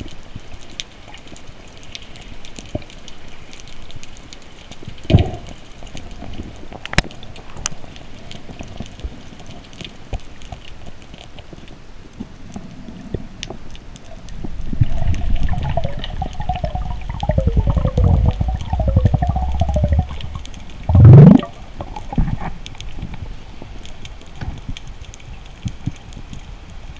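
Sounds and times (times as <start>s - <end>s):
underwater crackling clicks: 0.6s - 23.2s.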